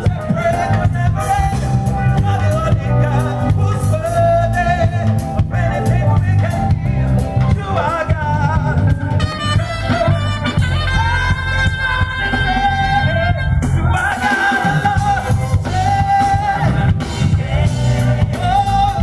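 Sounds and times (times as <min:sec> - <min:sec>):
bass guitar: 0:00.0 - 0:19.0
drum kit: 0:00.0 - 0:19.0
lead guitar: 0:00.0 - 0:19.0
person singing: 0:00.0 - 0:19.0
piano: 0:00.0 - 0:19.0.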